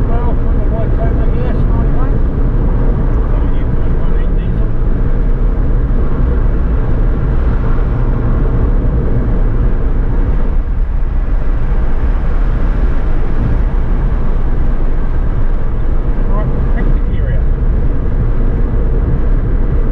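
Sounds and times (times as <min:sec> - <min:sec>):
car engine drone: 0:00.0 - 0:19.9.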